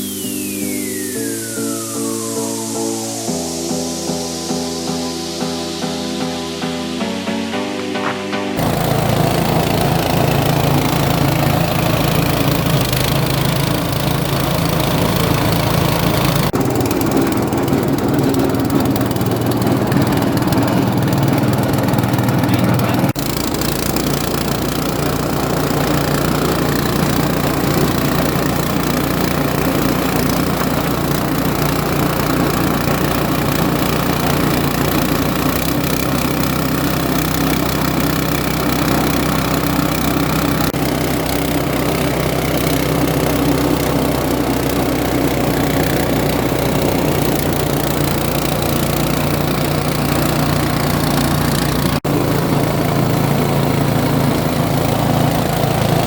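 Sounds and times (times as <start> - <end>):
grinding machine motor running: 8.6 - 56.0.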